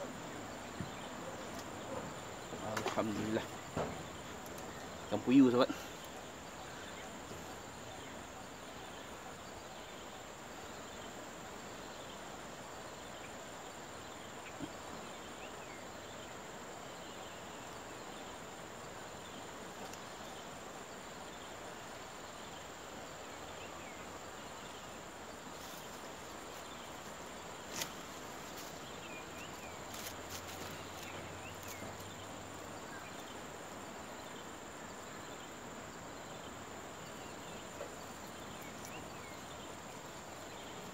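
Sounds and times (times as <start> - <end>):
even hiss: 0.0 - 40.9
insect chorus drone: 0.0 - 40.9.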